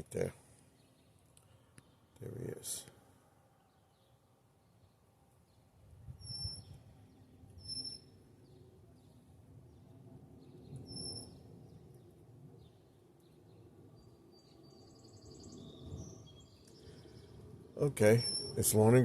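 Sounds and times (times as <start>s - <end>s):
small birds calling: 0.0s - 19.0s.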